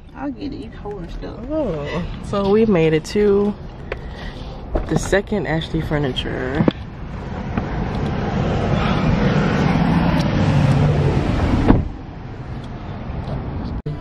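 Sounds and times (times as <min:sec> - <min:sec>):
car interior road noise: 0:00.0 - 0:14.0.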